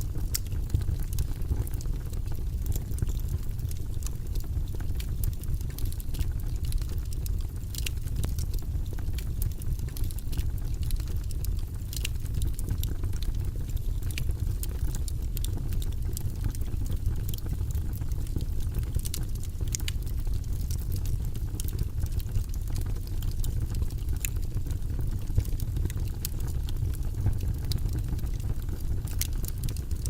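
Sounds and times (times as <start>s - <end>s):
fire crackling and popping: 0.0s - 30.0s
wood fire rumbling: 0.0s - 30.0s.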